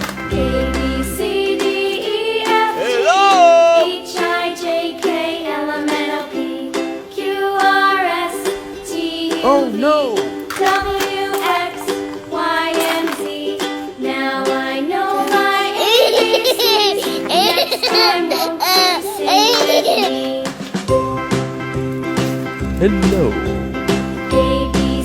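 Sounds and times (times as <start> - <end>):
plucked ukulele-like children's music: 0.0 - 25.0.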